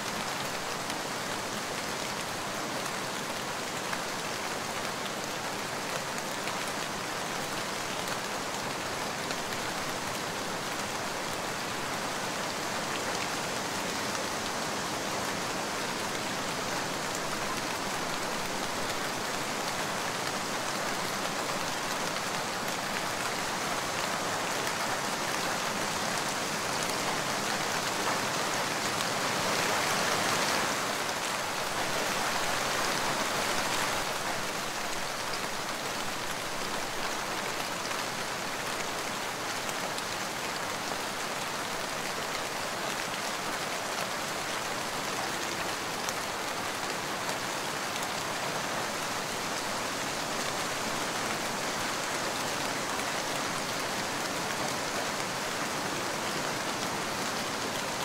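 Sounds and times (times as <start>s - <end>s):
light rain patter: 0.0s - 58.0s.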